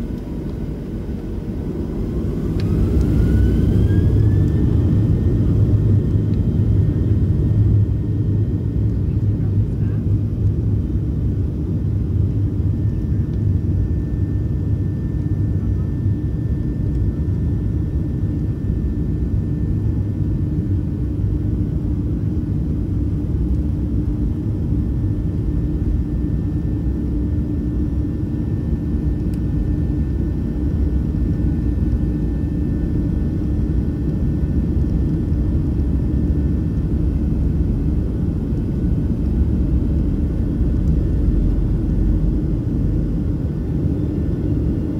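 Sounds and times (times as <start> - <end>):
faint engine whine: 0.0 - 44.9
jet engine low rumble: 0.0 - 44.9.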